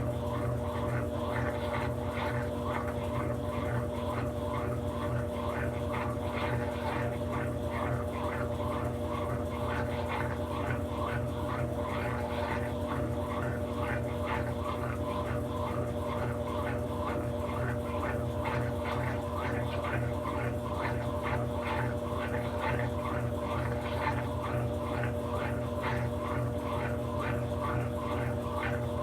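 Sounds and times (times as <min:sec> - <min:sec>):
washing machine running: 0:00.0 - 0:29.0.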